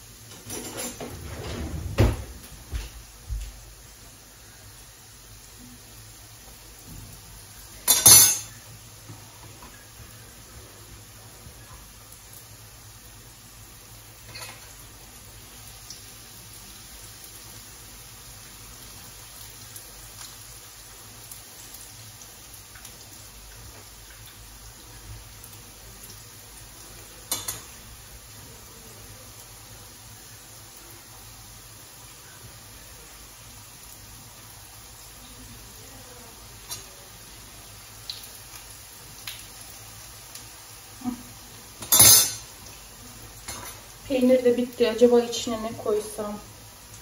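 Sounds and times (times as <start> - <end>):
pastries sizzling in hot oil: 0.0 - 47.0
oil popping and crackling: 6.4 - 30.2, 32.0 - 47.0.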